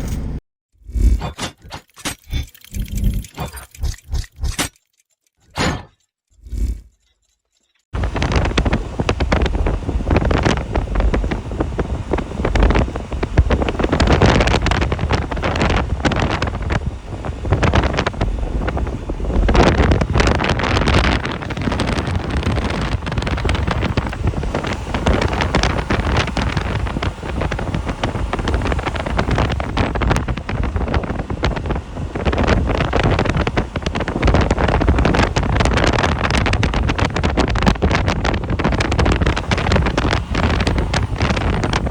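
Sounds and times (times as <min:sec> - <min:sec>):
vehicle driving rumble: 0:08.0 - 0:41.9
wind buffeting microphone: 0:08.0 - 0:41.9.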